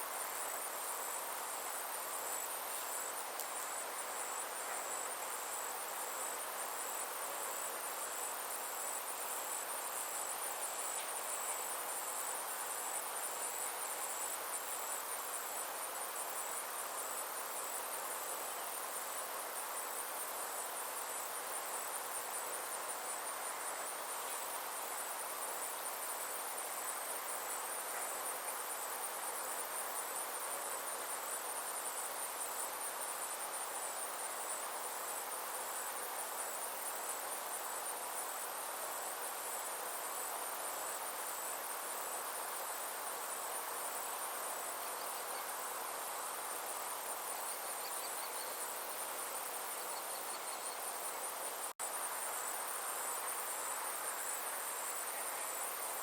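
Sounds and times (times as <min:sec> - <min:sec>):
insects chirring: 0:00.0 - 0:56.0
soft background hiss: 0:00.0 - 0:56.0.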